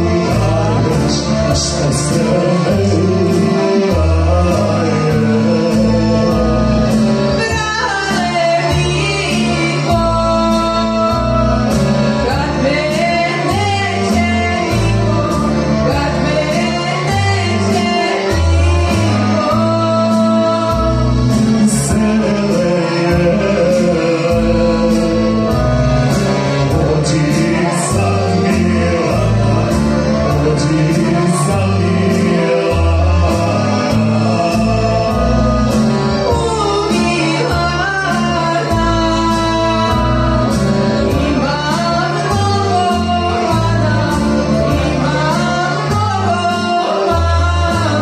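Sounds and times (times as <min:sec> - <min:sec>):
woman and man singing duet: 0:00.0 - 0:25.5, 0:26.7 - 0:35.6, 0:36.2 - 0:48.0
instrumental backing with bass: 0:00.0 - 0:48.0.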